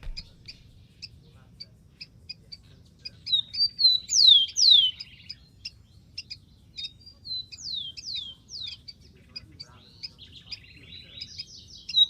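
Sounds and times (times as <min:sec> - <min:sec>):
sparrow singing whistles: 0:00.0 - 0:12.0.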